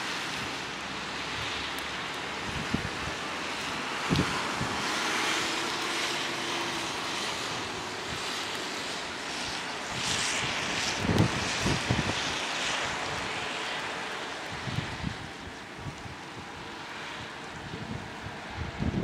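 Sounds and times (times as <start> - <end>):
low wind buffets: 0.0 - 19.0
wind on microphone: 0.0 - 19.0.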